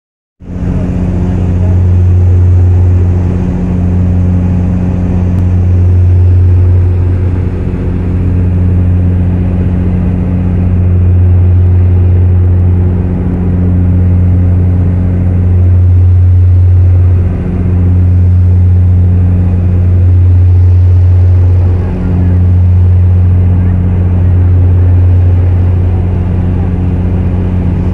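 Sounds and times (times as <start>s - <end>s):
airliner engine drone: 0.4s - 27.9s.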